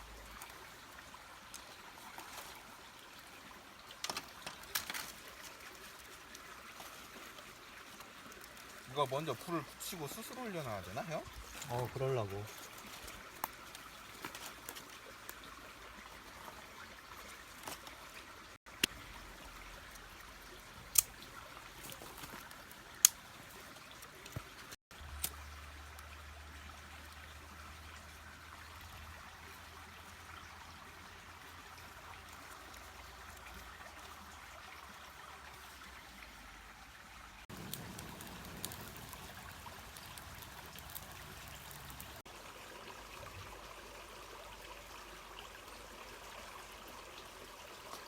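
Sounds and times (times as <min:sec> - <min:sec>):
stream trickling: 0:00.0 - 0:48.0.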